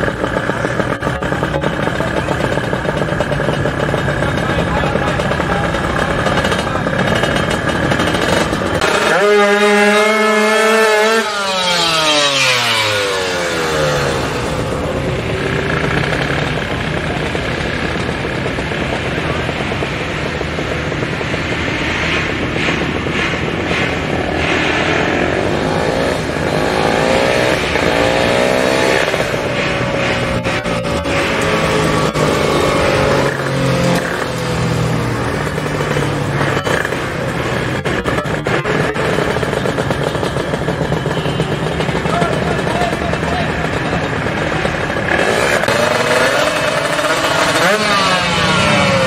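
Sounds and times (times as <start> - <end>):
motorcycle engine revving: 0.0 - 49.0
motorcycle passing by: 0.0 - 49.0.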